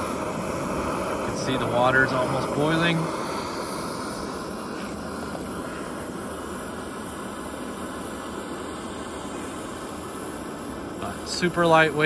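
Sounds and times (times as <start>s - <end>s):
camping stove burner hissing: 0.0s - 12.0s.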